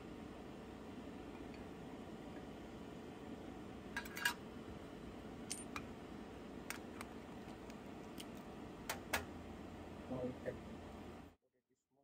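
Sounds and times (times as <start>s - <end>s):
low machine hum: 0.0s - 11.4s.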